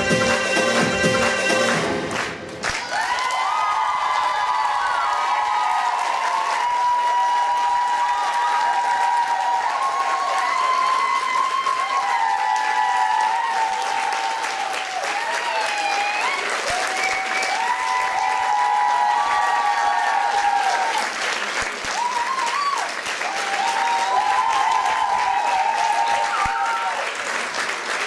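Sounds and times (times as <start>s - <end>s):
audience applauding: 0.2s - 28.0s.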